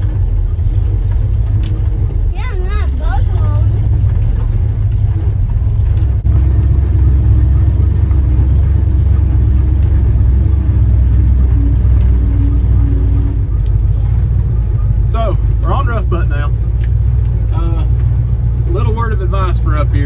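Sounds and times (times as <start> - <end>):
off-road vehicle engine rumbling: 0.0 - 20.0.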